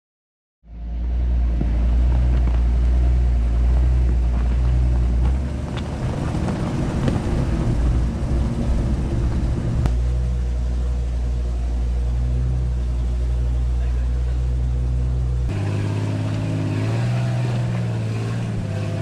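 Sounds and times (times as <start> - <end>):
car engine running: 0.6 - 19.0.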